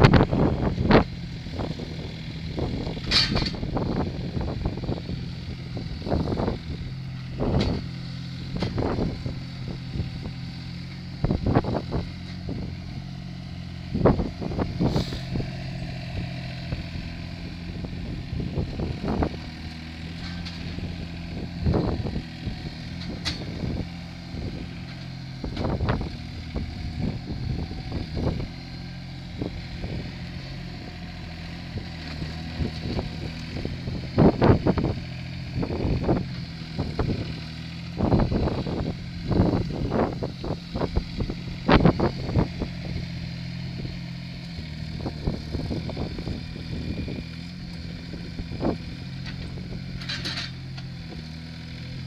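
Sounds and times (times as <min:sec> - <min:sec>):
small engine running under load: 0:00.0 - 0:52.0.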